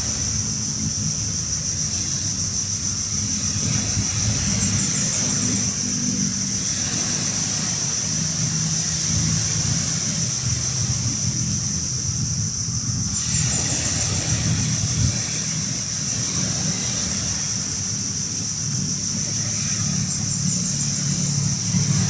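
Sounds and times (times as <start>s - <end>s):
engine droning: 0.0s - 22.0s
high-pitched hiss: 0.0s - 22.0s.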